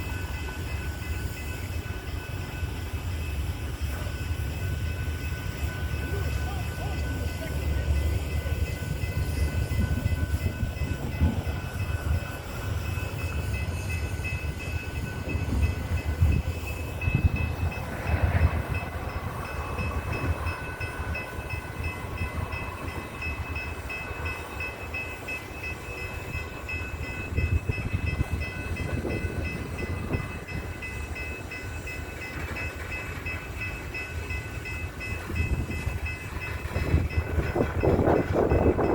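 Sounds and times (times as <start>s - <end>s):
steady high-pitched tones: 0.0s - 38.9s
train cars rumbling on tracks: 0.0s - 38.9s.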